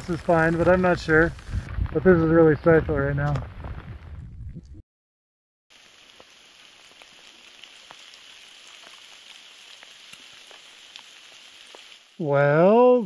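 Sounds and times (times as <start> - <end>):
rain falling: 0.0 - 3.4, 5.7 - 13.0.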